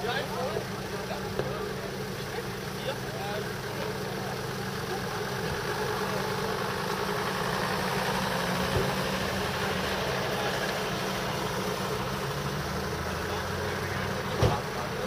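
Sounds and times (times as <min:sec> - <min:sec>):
ambulance engines idling: 0:00.0 - 0:15.0
van driving slowly past: 0:00.0 - 0:15.0.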